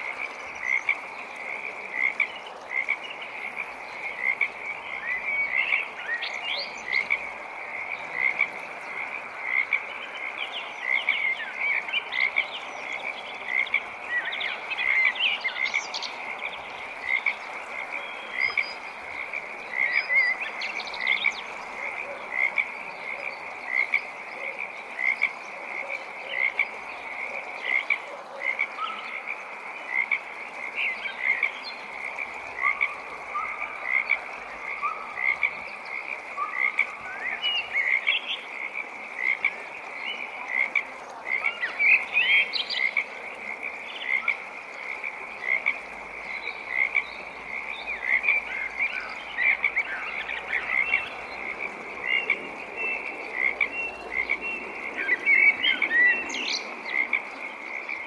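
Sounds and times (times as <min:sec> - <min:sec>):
frog chorus: 0:00.0 - 0:58.0
frogs calling: 0:00.0 - 0:58.0.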